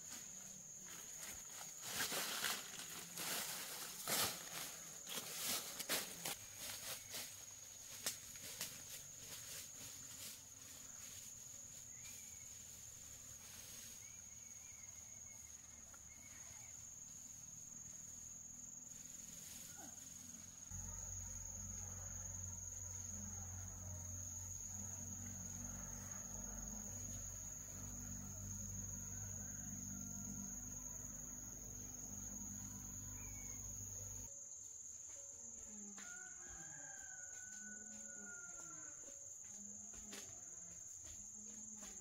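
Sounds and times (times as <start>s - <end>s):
insects trilling: 0.0s - 42.0s.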